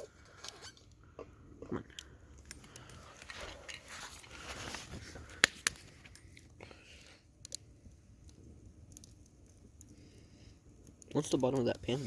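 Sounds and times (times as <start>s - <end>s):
campfire crackling: 0.0s - 12.0s
sharp fire pops: 1.8s - 12.0s.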